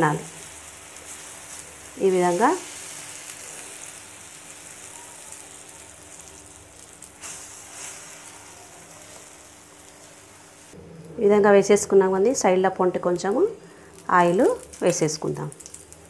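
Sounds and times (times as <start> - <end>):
batter sizzling in a pan: 0.0 - 10.8, 13.1 - 16.0.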